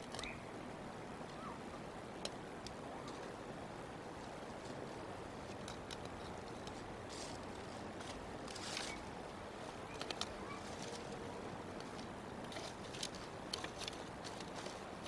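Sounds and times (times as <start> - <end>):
faint clicks of sticks: 0.0 - 0.4, 2.1 - 3.4, 4.1 - 15.0
steady hiss: 0.0 - 15.0.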